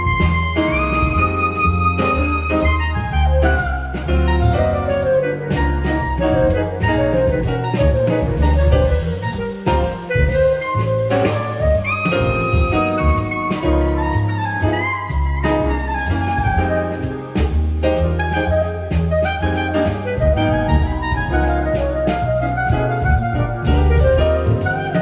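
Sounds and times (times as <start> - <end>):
bass line: 0.0 - 25.0
drum kit: 0.0 - 25.0
wind instrument melody: 0.0 - 25.0.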